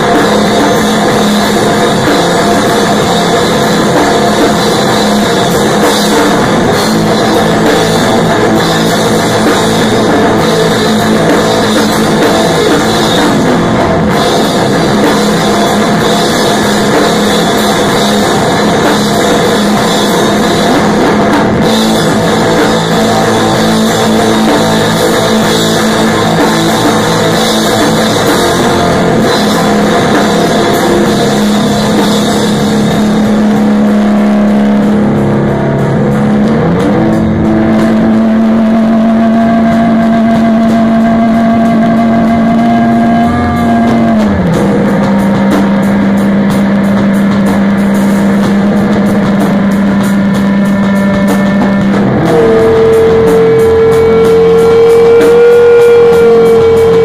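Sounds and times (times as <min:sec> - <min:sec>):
rock music with droning notes: 0:00.0 - 0:57.0.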